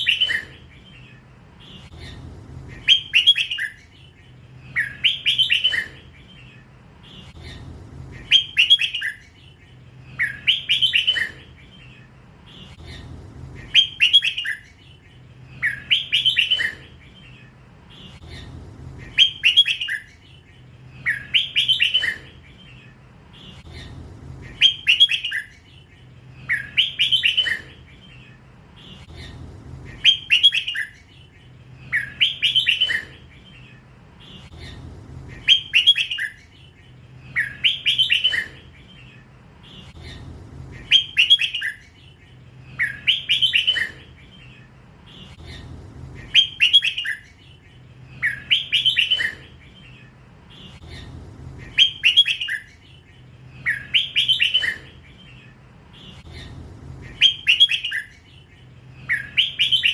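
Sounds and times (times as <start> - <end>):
bulbul singing whistled phrases: 0.0 - 59.9.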